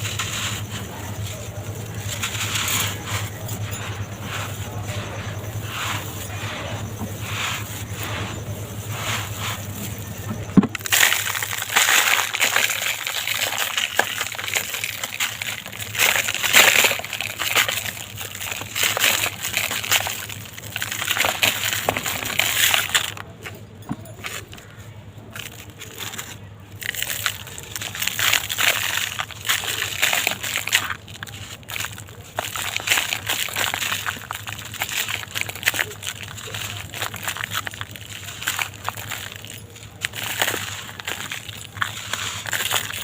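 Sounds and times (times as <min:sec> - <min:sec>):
material crunching by hand: 0:00.0 - 0:43.0.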